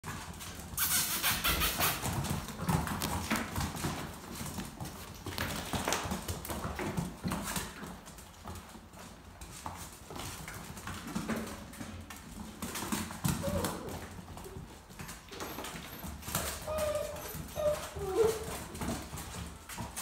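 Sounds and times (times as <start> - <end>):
puppy claws clicking on floor: 0.1 - 20.0.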